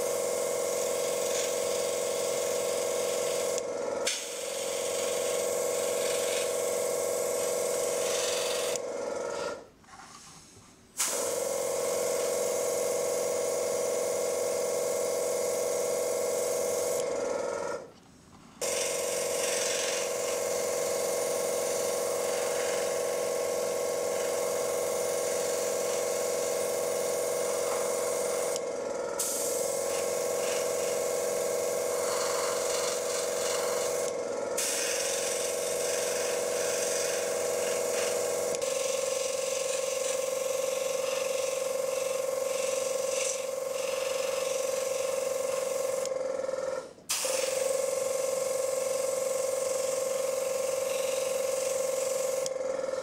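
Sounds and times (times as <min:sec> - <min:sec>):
airbrush hissing: 0:00.0 - 0:09.6, 0:11.0 - 0:17.4, 0:18.6 - 0:46.1, 0:47.1 - 0:52.5
small compressor humming: 0:00.0 - 0:09.8, 0:11.0 - 0:53.0.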